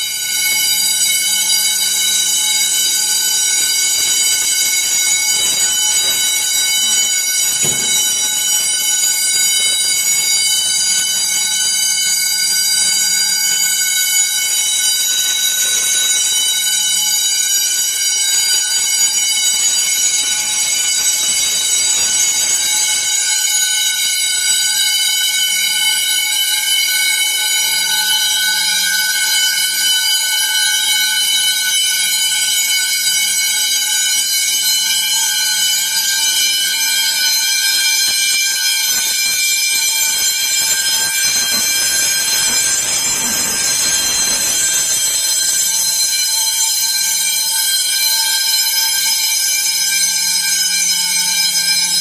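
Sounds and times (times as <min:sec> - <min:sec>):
fire alarms ringing: 0:00.0 - 0:52.0.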